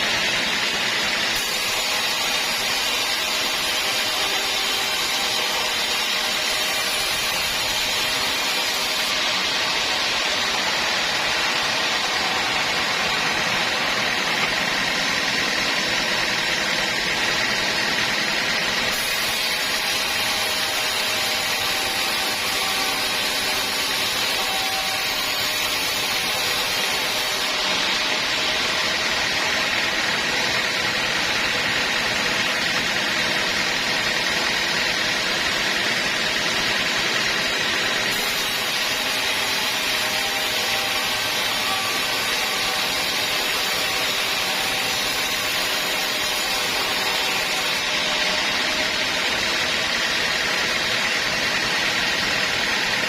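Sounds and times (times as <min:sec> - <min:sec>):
saw cutting wood: 0:00.0 - 0:53.0.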